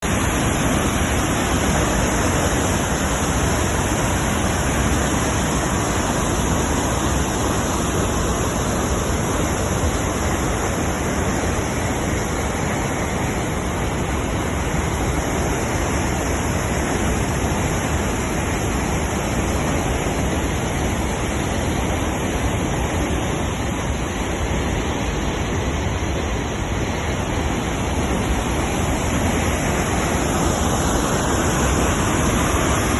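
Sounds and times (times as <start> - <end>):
fast-flowing water rushing: 0.0 - 32.9.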